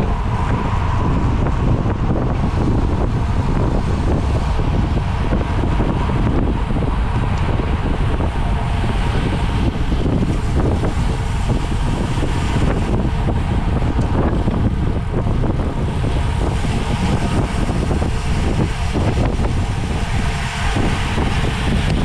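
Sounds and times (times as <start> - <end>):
wind buffeting a microphone: 0.0 - 22.0.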